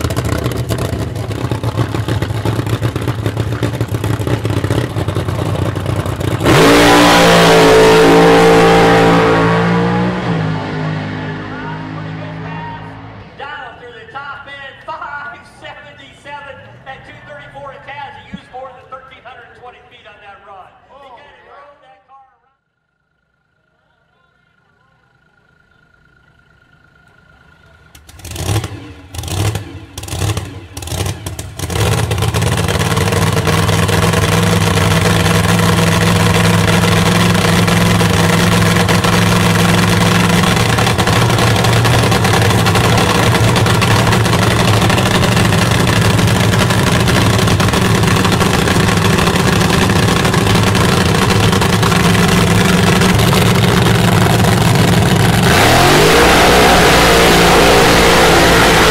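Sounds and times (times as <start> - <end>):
race car engine starting and idling: 0.0 - 22.0, 22.7 - 58.9.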